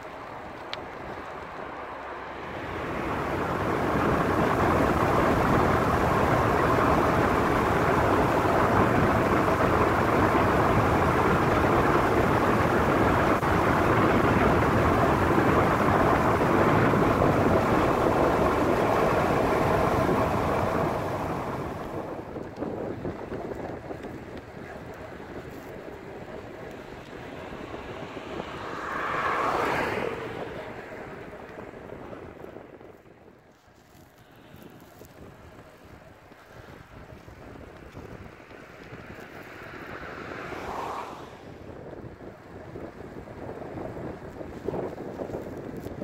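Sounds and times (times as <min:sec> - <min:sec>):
bicycle rolling noise: 0:00.0 - 0:46.0
wind rushing over microphone: 0:00.0 - 0:46.0.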